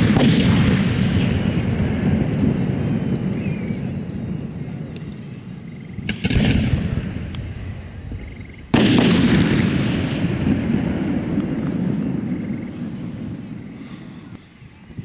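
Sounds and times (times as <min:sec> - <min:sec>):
echoing fireworks boom: 0:00.0 - 0:14.3
fireworks bursting: 0:00.0 - 0:15.0
fireworks crackling: 0:00.0 - 0:15.0.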